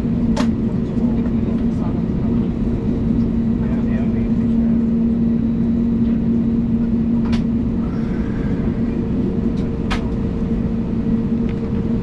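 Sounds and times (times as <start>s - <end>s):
aircraft engines humming: 0.0s - 12.0s.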